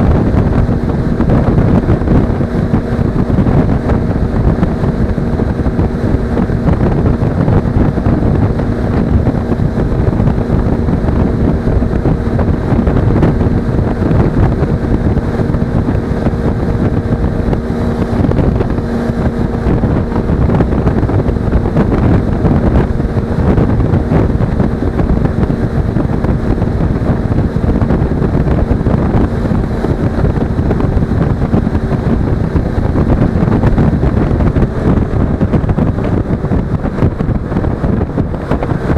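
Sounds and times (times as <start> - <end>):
motorcycle engine hum: 0.0 - 38.9
wind buffeting microphone: 0.0 - 38.9.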